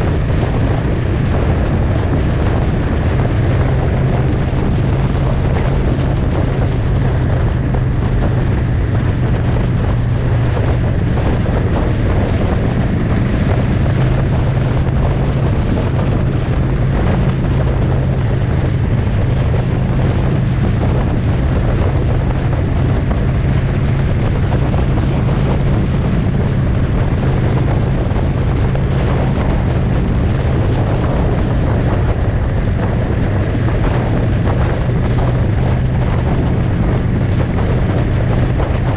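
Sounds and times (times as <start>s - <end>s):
motorcycle engine cruising: 0.0s - 38.9s
wind rush on microphone: 0.0s - 38.9s.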